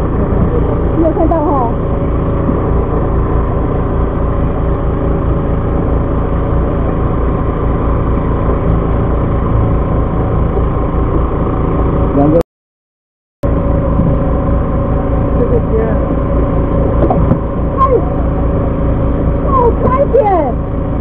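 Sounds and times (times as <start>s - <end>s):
boat engine humming: 0.0s - 12.4s, 13.4s - 21.0s.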